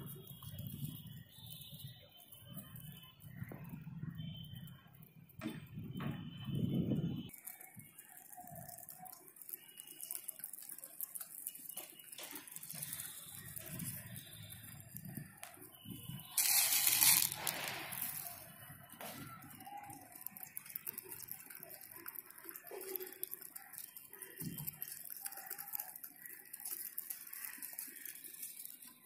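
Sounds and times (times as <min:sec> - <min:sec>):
pigeons pecking on concrete: 0:00.0 - 0:05.1, 0:07.2 - 0:29.0.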